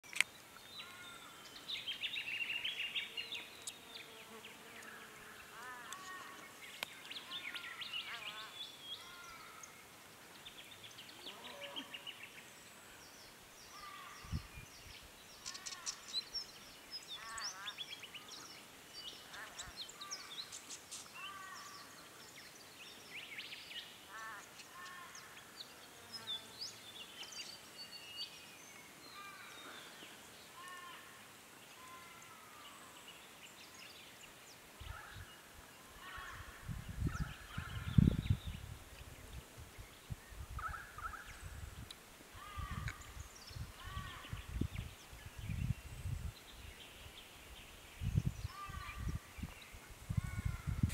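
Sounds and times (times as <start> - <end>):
small birds calling and singing: 0.0 - 50.9.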